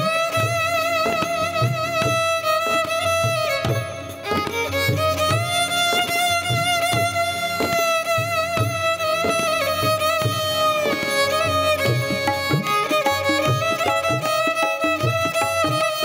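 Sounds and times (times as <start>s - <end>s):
wavering held melody: 0.0s - 16.0s.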